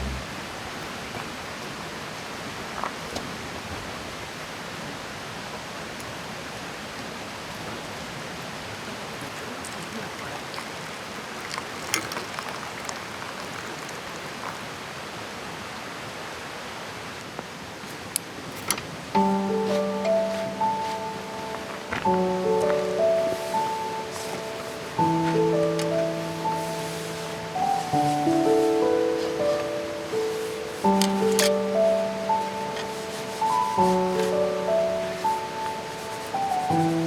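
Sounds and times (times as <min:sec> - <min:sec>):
river rushing: 0:00.0 - 0:37.0.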